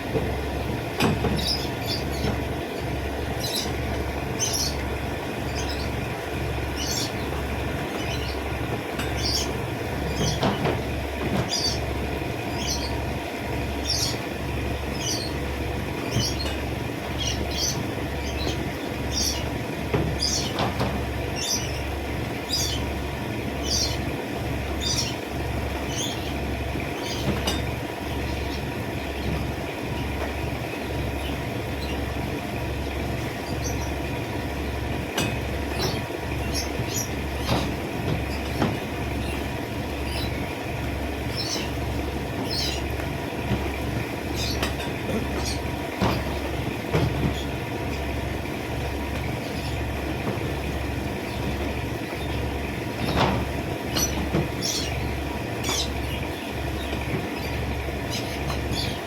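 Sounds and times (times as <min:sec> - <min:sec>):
small birds chirping: 0:00.6 - 0:59.0.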